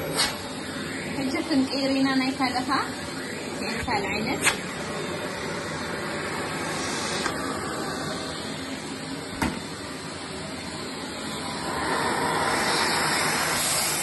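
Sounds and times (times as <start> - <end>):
vacuum cleaner on upholstery: 0.0 - 14.0.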